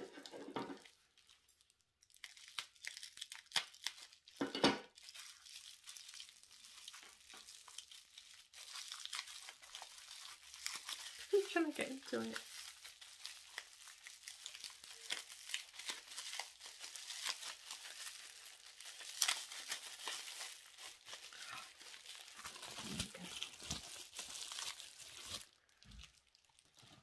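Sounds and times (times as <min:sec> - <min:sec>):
bubble wrap crackling: 0:00.0 - 0:27.0.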